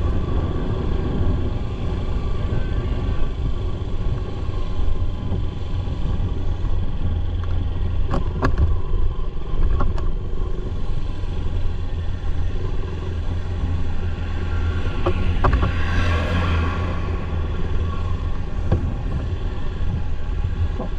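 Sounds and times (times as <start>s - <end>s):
motorcycle engine rumble: 0.0s - 20.9s
road noise: 0.0s - 20.9s.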